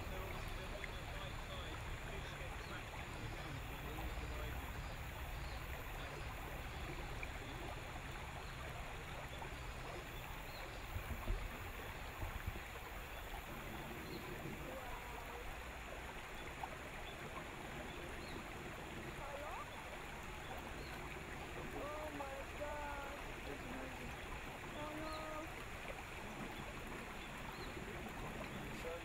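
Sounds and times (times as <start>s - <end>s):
water lapping against boat hull: 0.0s - 29.0s.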